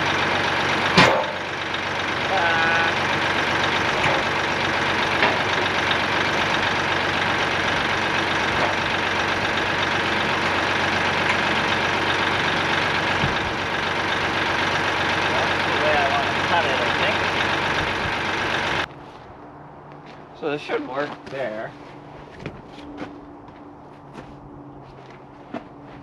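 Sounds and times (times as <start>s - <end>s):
loader engine idling: 0.0s - 26.0s.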